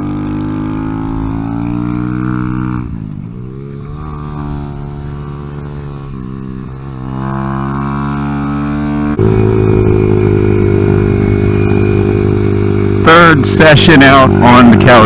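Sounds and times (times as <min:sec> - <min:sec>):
motorcycle engine revving under load: 0:00.0 - 0:15.0.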